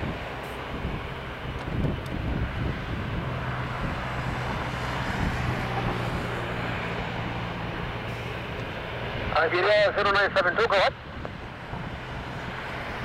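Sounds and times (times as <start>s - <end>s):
jet engines at taxi power: 0.0s - 13.0s.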